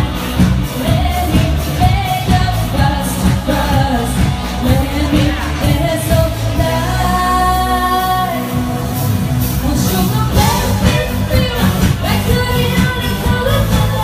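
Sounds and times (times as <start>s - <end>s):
musical accompaniment: 0.0s - 14.0s
person singing pop song: 0.0s - 14.0s.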